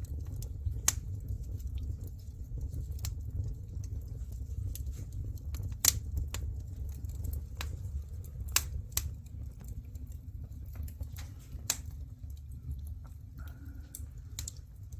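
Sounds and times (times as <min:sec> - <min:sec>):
fire low rumble: 0:00.0 - 0:14.9
firewood crackling and popping: 0:00.0 - 0:14.9.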